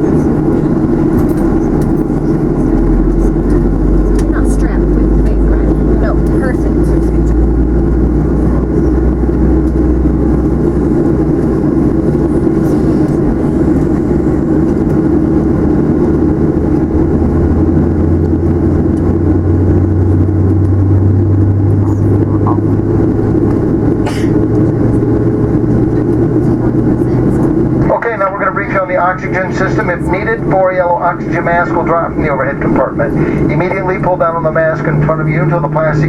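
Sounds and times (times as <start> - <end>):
jet engine cabin roar: 0.0 - 36.0.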